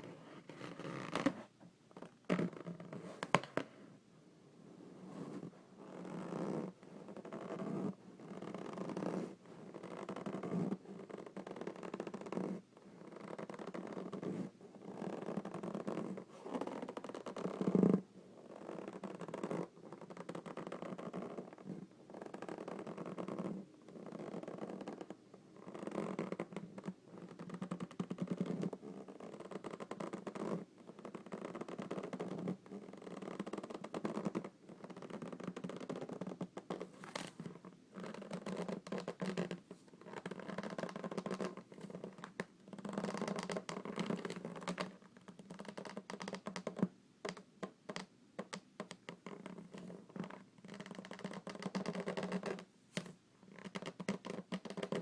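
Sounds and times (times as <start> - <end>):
hands rubbing a balloon: 0.0 - 3.8, 4.9 - 55.0.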